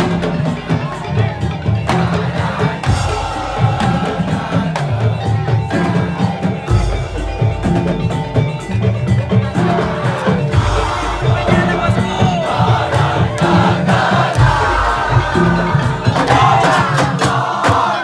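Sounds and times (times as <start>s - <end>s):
wooden slit drum percussion: 0.0s - 18.0s.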